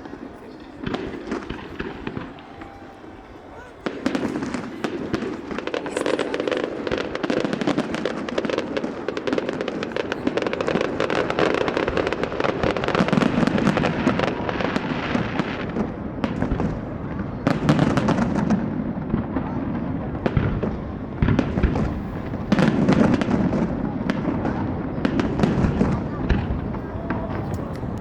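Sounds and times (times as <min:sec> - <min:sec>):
fireworks barrage: 0:00.0 - 0:28.0.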